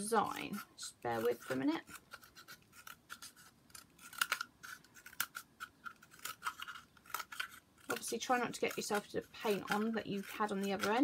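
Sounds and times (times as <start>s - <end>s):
scissors snipping cardboard: 0.0s - 11.0s.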